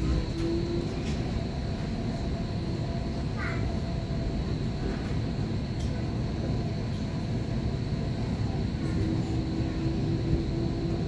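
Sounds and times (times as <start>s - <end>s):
tram rumbling: 0.0s - 11.0s.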